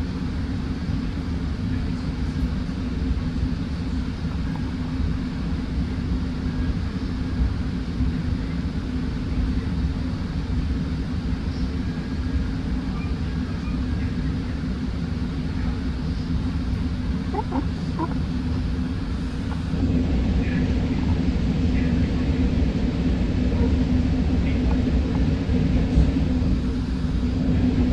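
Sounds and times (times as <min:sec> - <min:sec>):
passenger train rumbling: 0:00.0 - 0:27.9.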